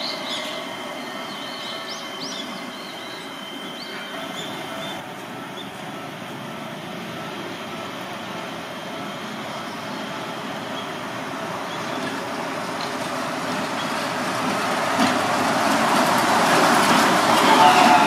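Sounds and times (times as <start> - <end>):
rubber-tyred train running: 0.0 - 18.0.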